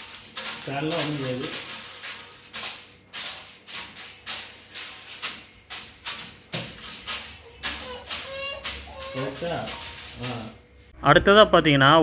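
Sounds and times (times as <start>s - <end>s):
broom swishing on fan blades: 0.0s - 11.0s.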